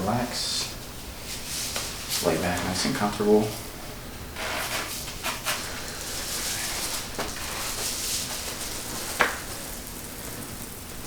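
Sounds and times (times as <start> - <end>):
rustling and handling noises: 0.6 - 3.7, 4.4 - 11.0.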